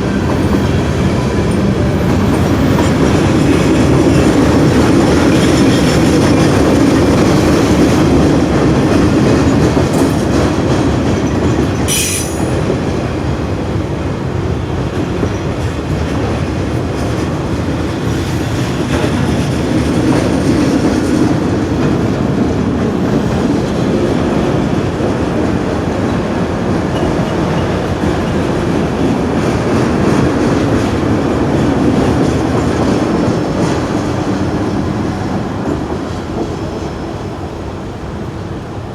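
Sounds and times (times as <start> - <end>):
train wheels clattering over rails: 0.0 - 38.0.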